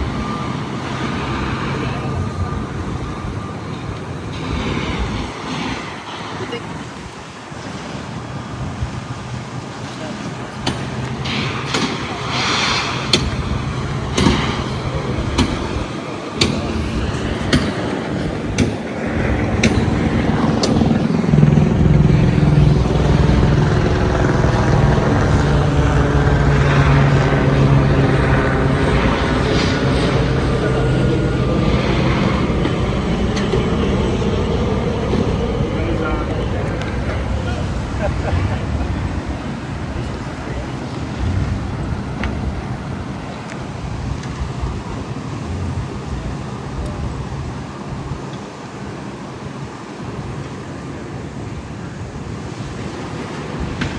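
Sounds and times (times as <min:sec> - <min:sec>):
engine humming: 0:00.0 - 0:53.9
steady outdoor rumble: 0:00.0 - 0:53.9
wind buffeting microphone: 0:00.0 - 0:53.9.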